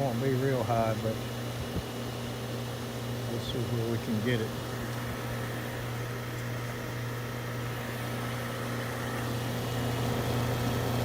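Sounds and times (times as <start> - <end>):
compressor humming: 0.0 - 11.0
condenser fan rushing: 0.0 - 11.0.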